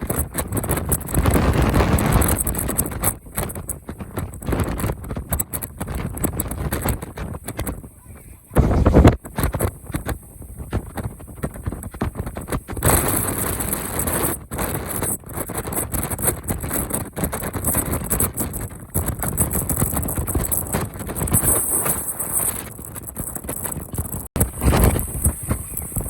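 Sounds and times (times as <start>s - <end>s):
wind gusting against microphone: 0.0s - 26.0s.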